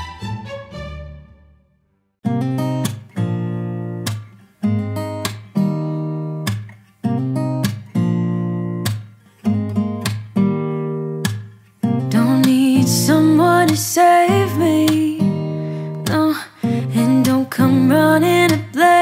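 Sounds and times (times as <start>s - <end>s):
acoustic guitar strumming chords: 2.2s - 19.0s
bright guitar melody: 2.2s - 19.0s.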